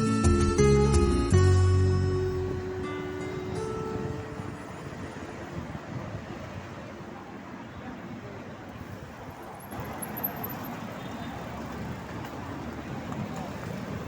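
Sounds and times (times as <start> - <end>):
busy road traffic: 0.0 - 14.0.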